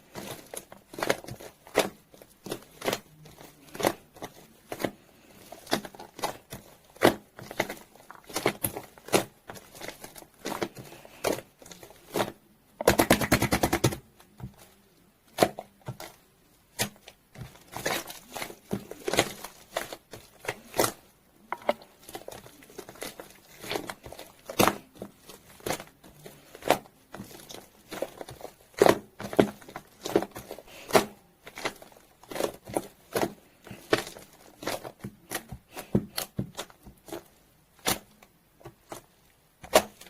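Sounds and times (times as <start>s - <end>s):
crackling of slime: 0.0s - 40.0s
slime squished by hand: 0.0s - 40.0s.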